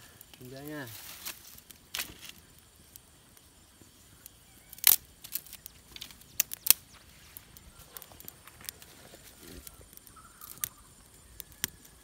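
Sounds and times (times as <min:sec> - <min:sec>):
twigs snapping and cracking: 0:00.2 - 0:03.1, 0:04.2 - 0:12.0.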